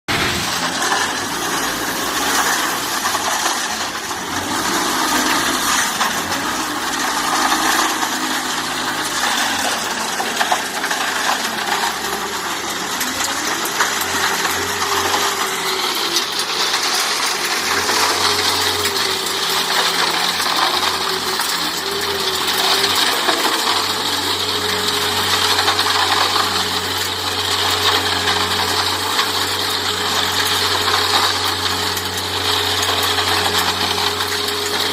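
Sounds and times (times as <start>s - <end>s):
concrete mixer metallic clatter: 0.1s - 34.9s.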